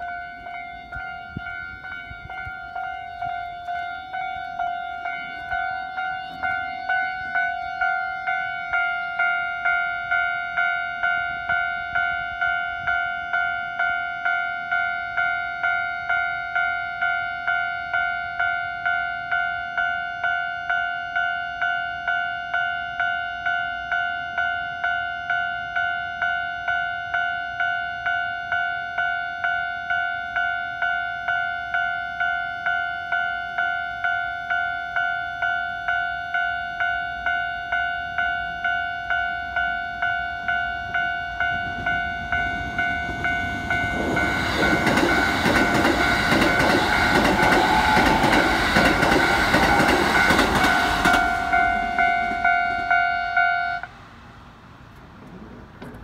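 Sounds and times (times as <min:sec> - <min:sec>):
level-crossing alarm ringing: 0:00.0 - 0:53.9
electric train passing: 0:00.0 - 0:56.0.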